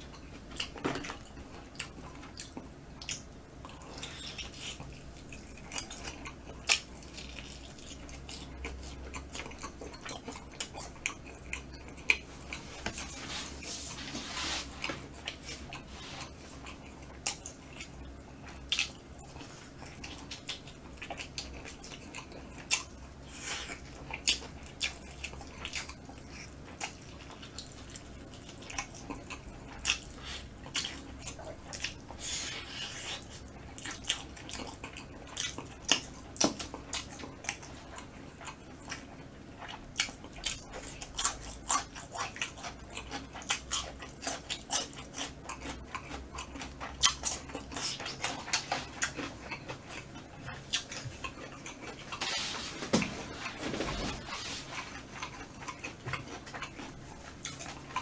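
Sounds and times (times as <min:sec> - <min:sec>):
wet chewing clicks and smacks: 0:00.1 - 0:13.0, 0:15.0 - 0:52.2, 0:54.7 - 0:58.0.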